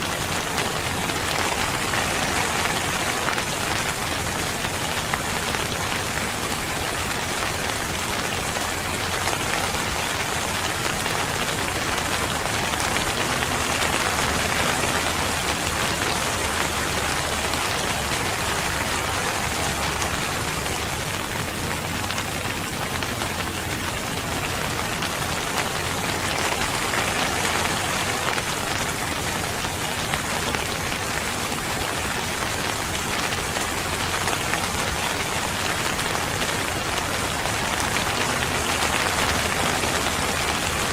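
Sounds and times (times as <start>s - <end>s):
rain falling on a surface: 0.0s - 40.9s.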